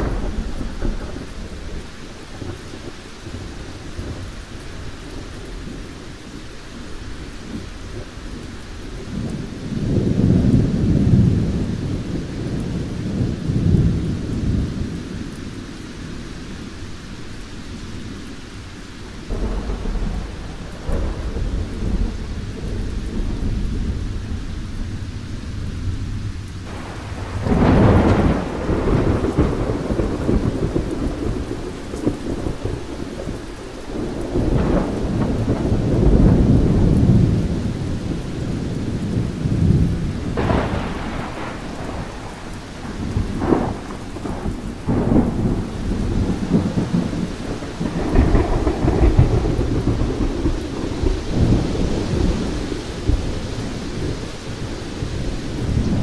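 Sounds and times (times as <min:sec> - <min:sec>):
thunder rumbling: 0:00.0 - 0:16.8, 0:19.0 - 0:56.0
steady rain: 0:00.0 - 0:56.0.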